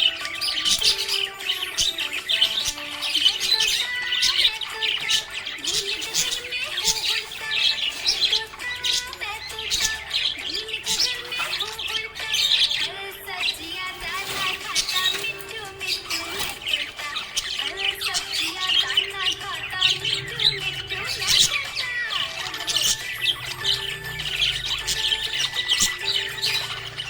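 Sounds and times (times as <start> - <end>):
background music with held notes: 0.0 - 27.0
parrots chirping and squawking: 0.0 - 27.0.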